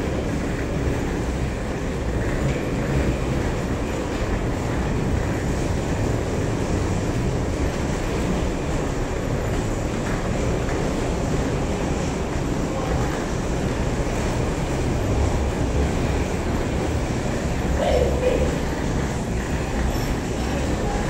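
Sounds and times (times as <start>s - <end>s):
wheeled suitcases rolling: 0.0s - 21.0s.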